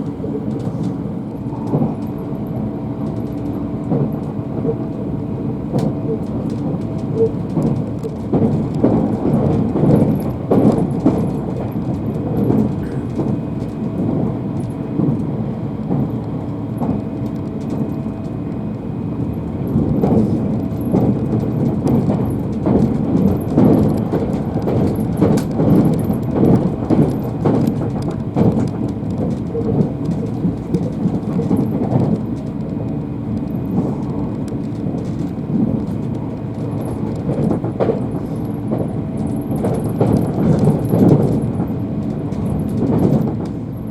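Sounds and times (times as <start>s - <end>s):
train rumble: 0.0s - 43.9s
wheels clicking on track: 0.0s - 43.9s.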